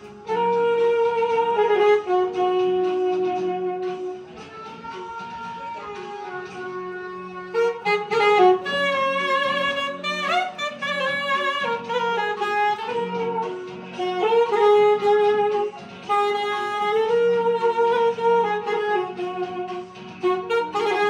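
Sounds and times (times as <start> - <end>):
saxophone slow melody: 0.0 - 21.0.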